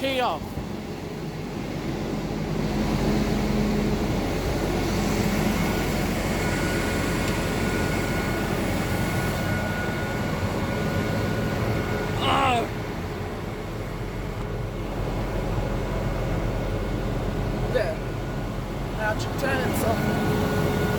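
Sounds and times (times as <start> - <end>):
faint steady whine: 0.0 - 20.9
heavy vehicle engine idling: 0.0 - 20.9.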